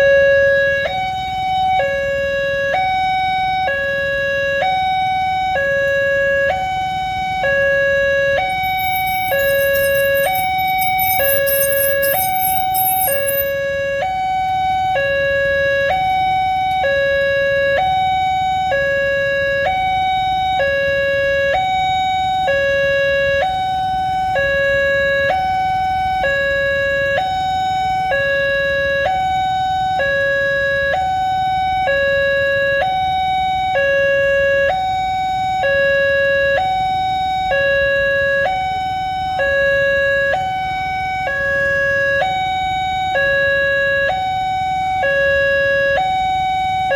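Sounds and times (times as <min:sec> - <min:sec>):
two-tone level crossing alarm: 0:00.0 - 0:46.9.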